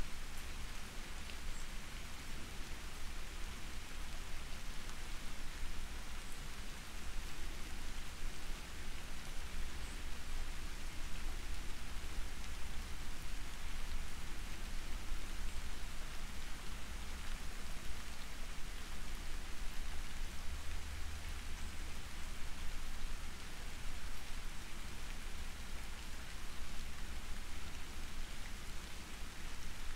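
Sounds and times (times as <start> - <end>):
soft rain falling: 0.0 - 29.9.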